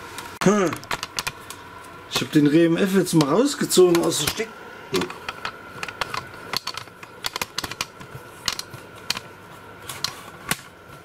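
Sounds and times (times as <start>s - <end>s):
faint steady whine: 0.0s - 11.0s.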